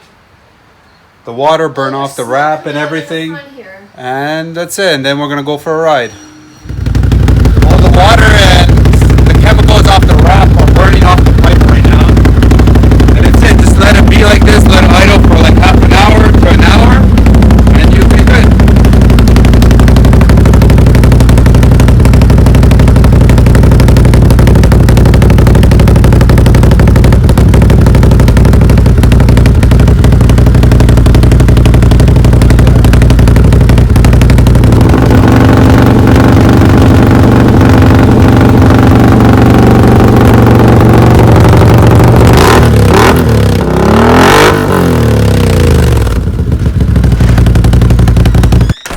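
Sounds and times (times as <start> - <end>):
atv engine idling and revving: 6.6 - 48.9.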